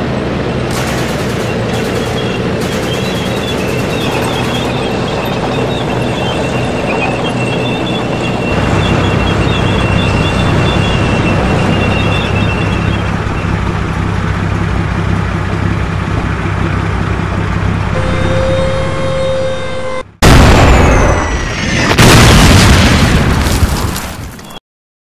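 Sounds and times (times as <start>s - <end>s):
tank engine rumble: 0.0s - 24.6s.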